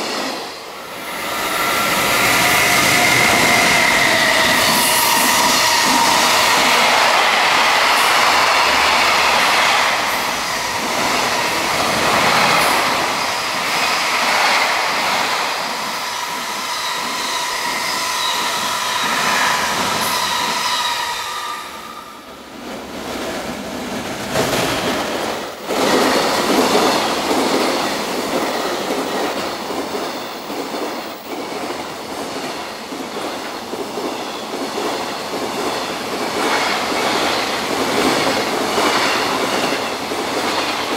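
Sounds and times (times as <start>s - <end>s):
wheels squealing on rails: 0.0s - 22.4s, 25.8s - 40.9s
freight trains running past: 0.0s - 40.9s.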